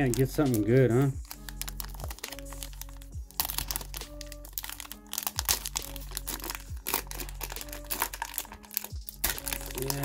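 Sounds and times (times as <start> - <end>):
background music: 0.0 - 10.0
plastic wrapper crinkling and tearing: 0.0 - 10.0.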